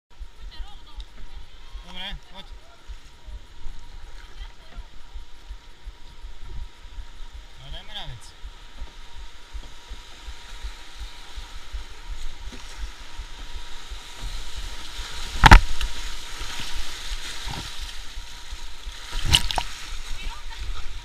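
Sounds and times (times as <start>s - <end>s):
white water rushing: 0.2s - 21.0s.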